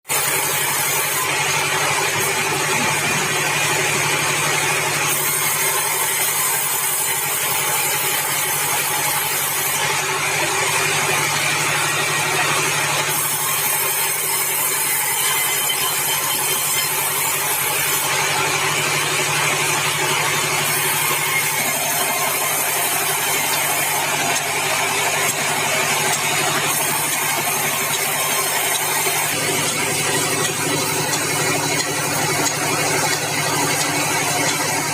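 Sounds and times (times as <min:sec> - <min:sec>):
bandsaw mill sawing timber: 0:00.0 - 0:34.9.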